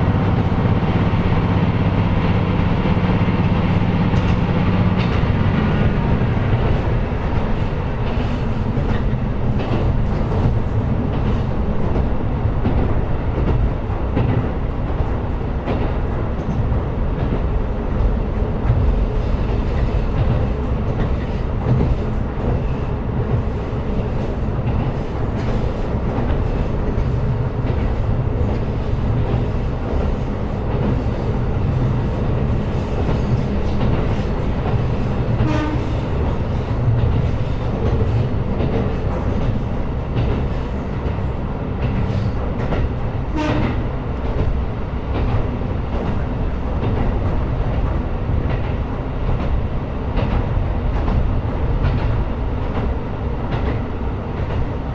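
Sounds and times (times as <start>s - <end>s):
railcar engine and wheels rumbling: 0.0s - 54.9s.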